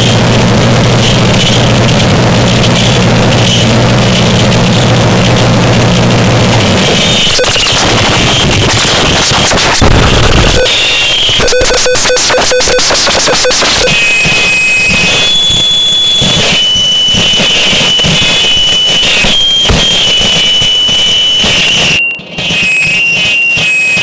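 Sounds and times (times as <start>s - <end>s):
heavy low rumble: 0.0s - 22.2s
harsh distorted noise music: 0.0s - 24.0s
high whining tones: 0.0s - 24.0s.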